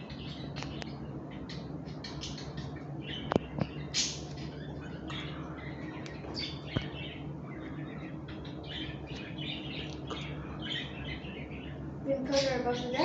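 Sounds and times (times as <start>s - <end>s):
low hum: 0.0s - 13.0s
small birds chirping: 0.0s - 13.0s.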